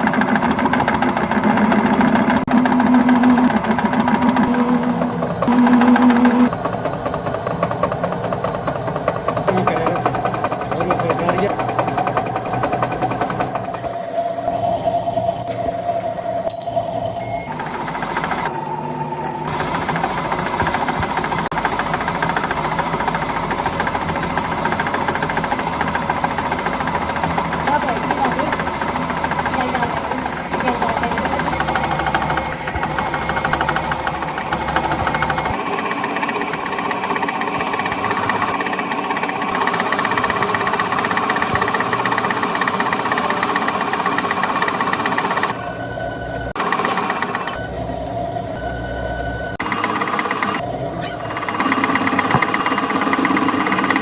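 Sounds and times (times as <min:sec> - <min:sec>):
workshop machinery rattling and humming: 0:00.0 - 0:54.0.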